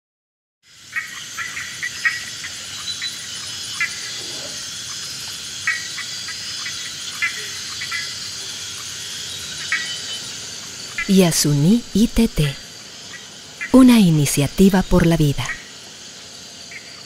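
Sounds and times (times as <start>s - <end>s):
insect chorus: 0.6s - 17.0s.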